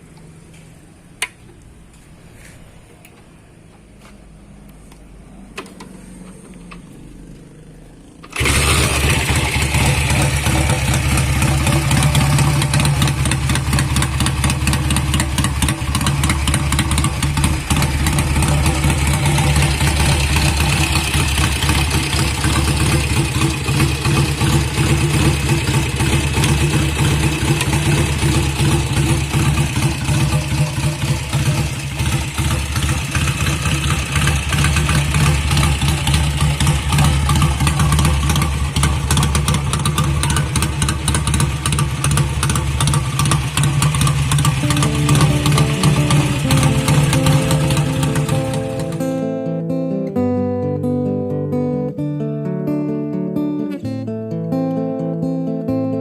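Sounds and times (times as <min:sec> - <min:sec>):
motorcycle engine starting and running: 0:00.0 - 0:49.3.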